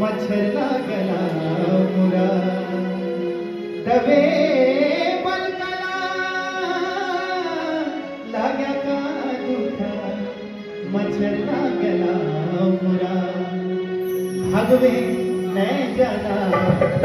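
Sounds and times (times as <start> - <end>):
man singing into a microphone: 0.0 - 13.8, 14.4 - 17.0.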